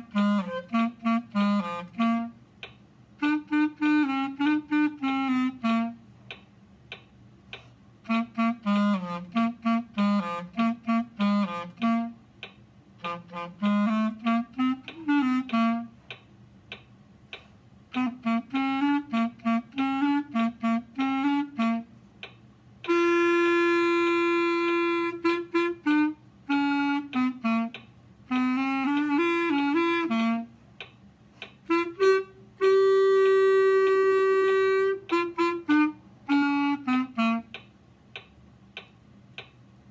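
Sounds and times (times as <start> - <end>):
clarinet playing a tune: 0.0 - 6.1, 8.0 - 16.0, 17.8 - 22.0, 22.8 - 30.6, 31.6 - 37.6.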